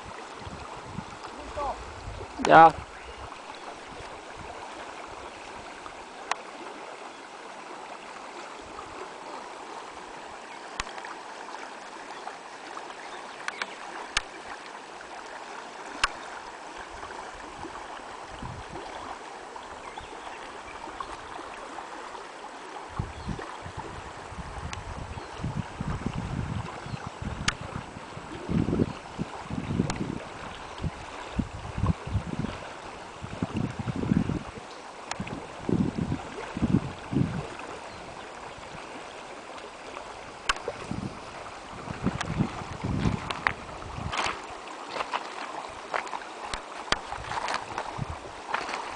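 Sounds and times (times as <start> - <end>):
stream running: 0.0 - 48.9.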